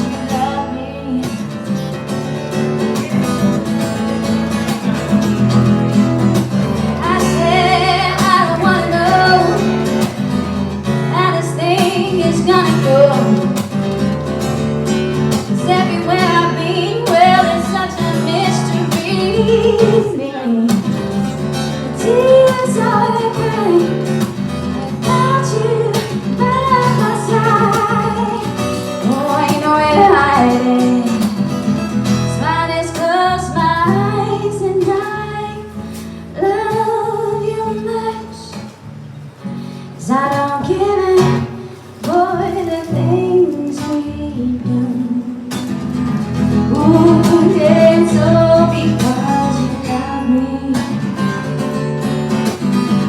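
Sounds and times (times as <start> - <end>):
woman singing: 0.0 - 2.2, 4.6 - 38.8, 40.0 - 52.4
acoustic guitar: 0.0 - 53.0.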